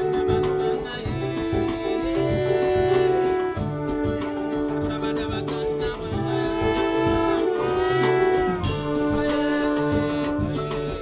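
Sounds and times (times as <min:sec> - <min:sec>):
trumpet long notes: 0:00.0 - 0:10.8
drums on cymbals: 0:00.0 - 0:11.0
guitars: 0:00.0 - 0:11.0.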